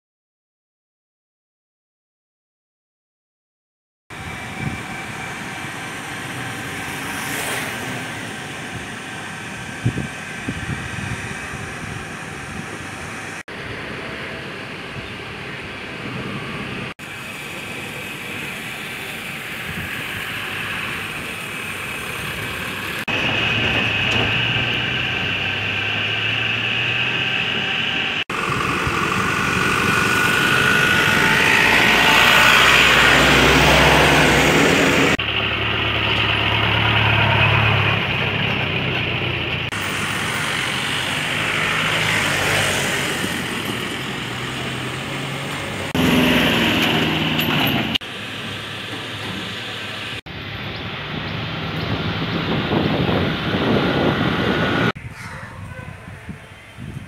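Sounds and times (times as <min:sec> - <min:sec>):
cars and trucks passing: 0:04.1 - 0:57.0.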